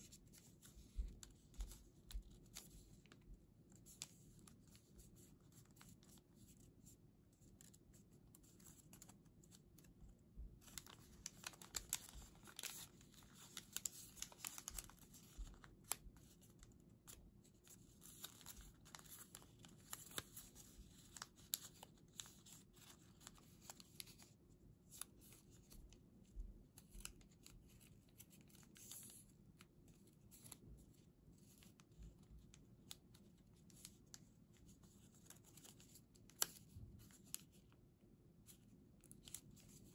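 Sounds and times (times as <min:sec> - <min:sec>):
crisp paper folding clicks: 0:00.0 - 0:37.8, 0:38.4 - 0:39.9
paper rustling and crinkling: 0:00.0 - 0:37.8, 0:38.4 - 0:39.9.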